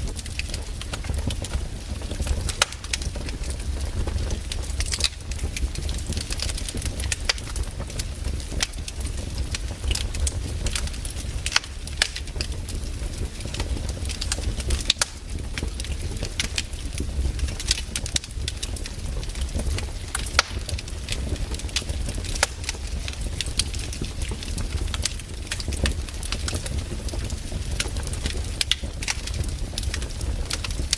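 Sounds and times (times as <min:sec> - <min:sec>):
campfire crackling and popping: 0:00.0 - 0:30.9
low rumble of burning fire: 0:00.0 - 0:30.9.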